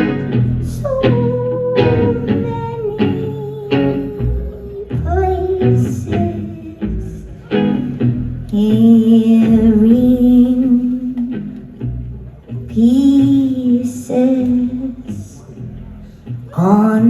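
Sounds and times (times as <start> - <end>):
person singing long notes: 0.0 - 7.6, 8.5 - 11.8, 12.6 - 15.5
live band playing: 0.0 - 17.0.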